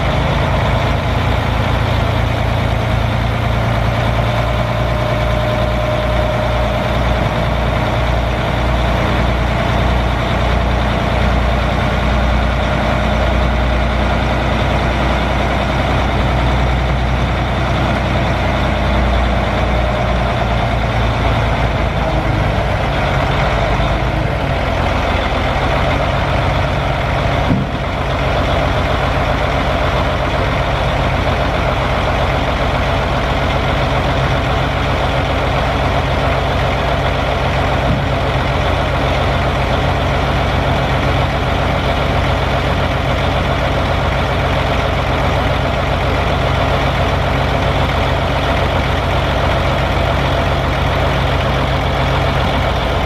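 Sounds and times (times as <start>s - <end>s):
diesel truck engine running: 0.0s - 53.0s.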